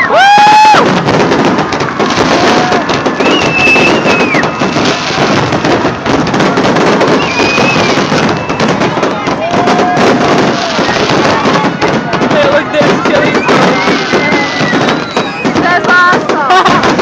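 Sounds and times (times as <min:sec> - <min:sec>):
fireworks crackling: 0:00.0 - 0:17.0
fireworks whistling: 0:00.0 - 0:17.0.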